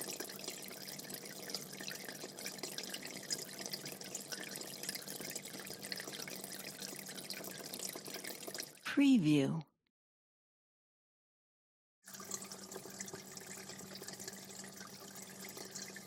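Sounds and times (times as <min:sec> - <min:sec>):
aquarium water trickling and bubbling: 0:00.0 - 0:09.0, 0:12.0 - 0:16.0.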